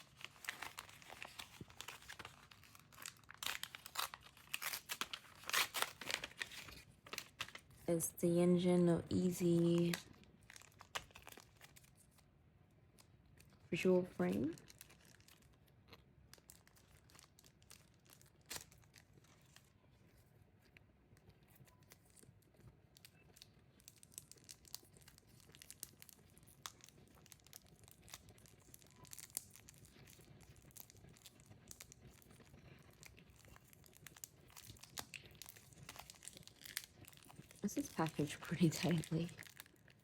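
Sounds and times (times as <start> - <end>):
plastic packaging crinkling: 0.0 - 8.0, 8.6 - 12.3, 13.0 - 20.2, 22.9 - 40.0.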